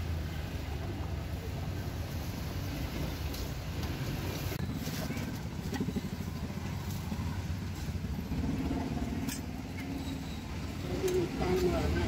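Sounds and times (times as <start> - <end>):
passing vehicles rumble: 0.0 - 12.0.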